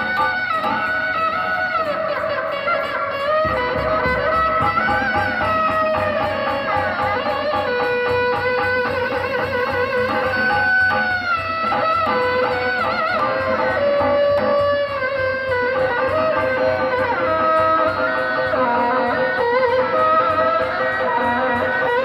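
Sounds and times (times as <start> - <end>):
steady drum beat: 0.0 - 22.0
wavering melody line: 3.2 - 22.0.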